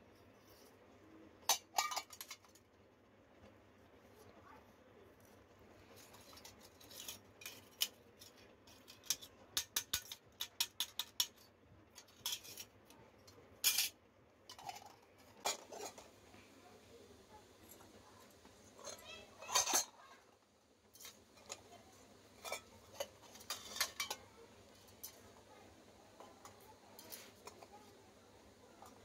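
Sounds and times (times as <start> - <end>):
toy dishes clinking: 1.4 - 2.6, 5.9 - 29.0.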